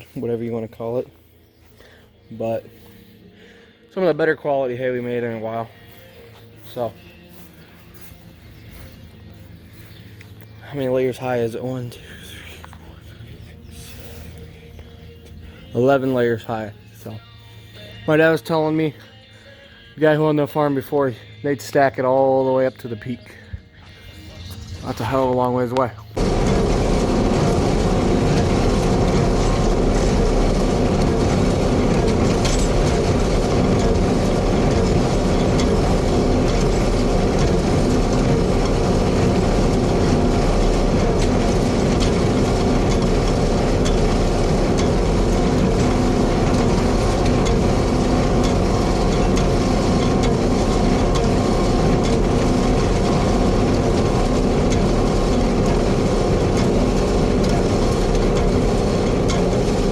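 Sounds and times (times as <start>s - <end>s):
farm machinery rattling: 0.0s - 59.9s.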